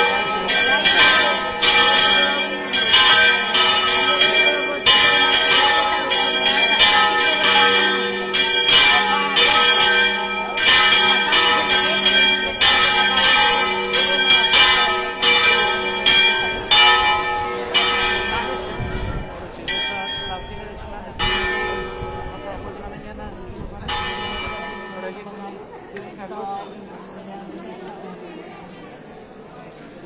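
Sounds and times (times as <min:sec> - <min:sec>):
church bells pealing: 0:00.0 - 0:26.3.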